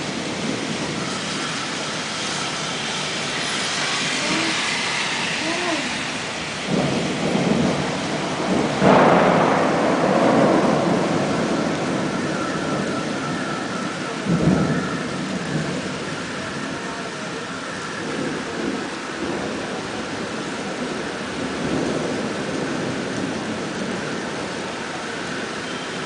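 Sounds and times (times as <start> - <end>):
steady rain: 0.0 - 26.0
thunder rumbling: 0.0 - 26.0.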